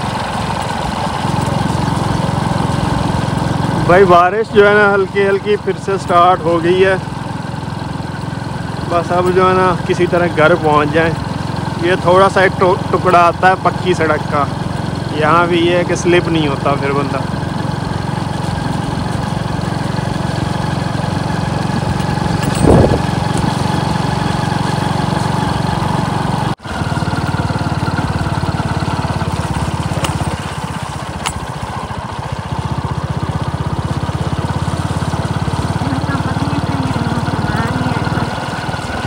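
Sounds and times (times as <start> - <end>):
small motorcycle engine running: 0.0 - 39.0.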